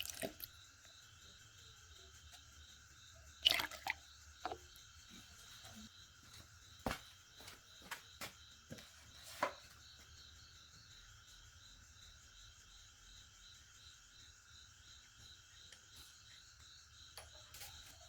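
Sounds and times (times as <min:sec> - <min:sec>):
faint insect chirping: 0:00.0 - 0:18.0.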